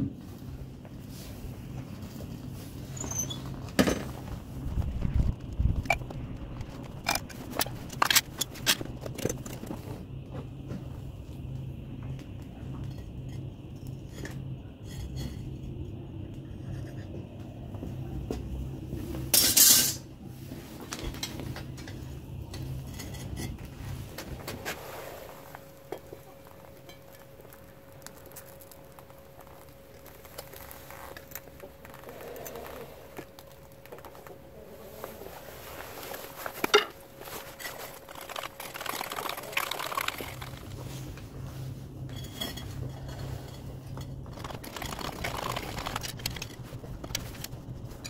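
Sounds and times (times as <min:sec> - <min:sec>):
gas furnace burner hum: 0:00.0 - 0:38.6, 0:40.3 - 0:48.0.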